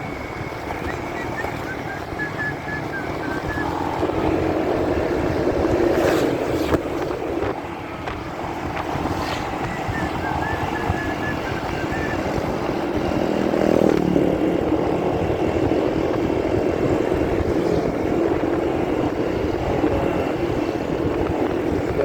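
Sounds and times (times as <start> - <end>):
muffled motorcycle engine drone: 0.0 - 22.0
wind rushing: 0.0 - 22.0.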